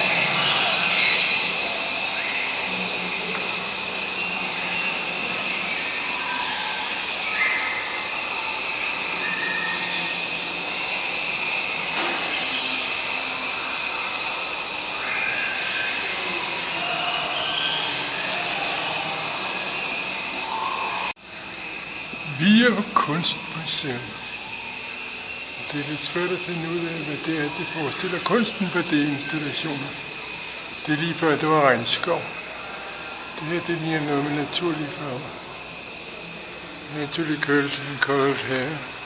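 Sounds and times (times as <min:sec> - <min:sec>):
steady airy hiss: 0:00.0 - 0:39.0.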